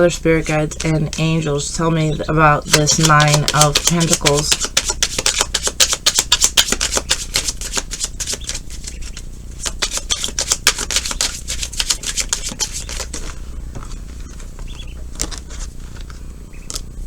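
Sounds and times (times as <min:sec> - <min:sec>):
cards being shuffled: 0:00.0 - 0:01.5, 0:02.7 - 0:16.9.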